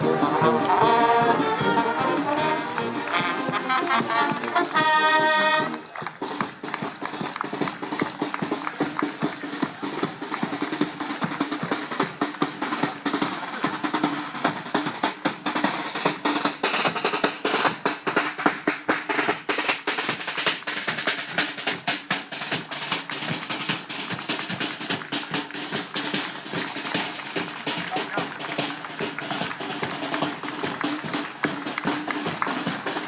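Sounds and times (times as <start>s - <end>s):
snare drums marching beat: 0.0s - 33.0s.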